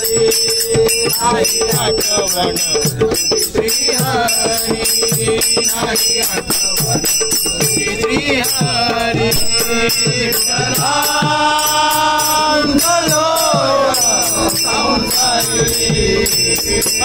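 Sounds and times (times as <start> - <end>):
hand cymbals clashing: 0.0 - 17.0
hand drums: 0.0 - 17.0
men singing: 0.0 - 17.0.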